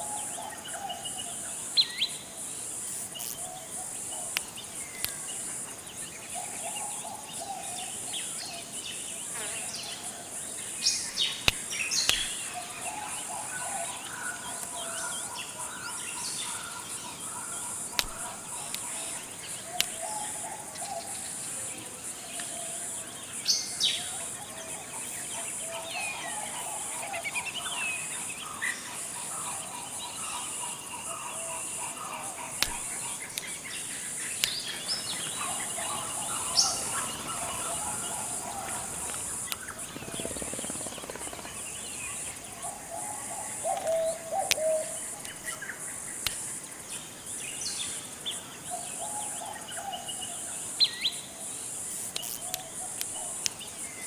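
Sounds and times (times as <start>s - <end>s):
insects buzzing: 0.0s - 54.0s
birds calling and chirping: 3.2s - 21.7s, 22.3s - 54.0s.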